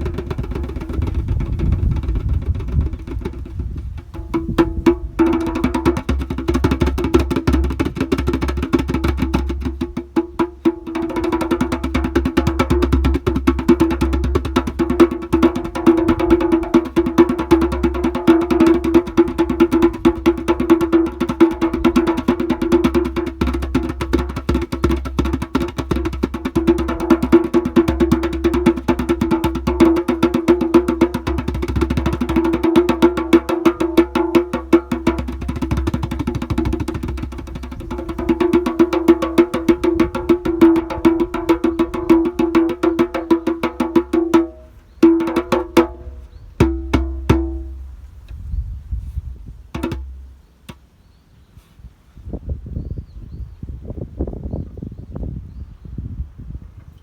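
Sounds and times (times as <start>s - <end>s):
large drum struck rapidly: 0.0s - 47.9s, 49.8s - 50.4s.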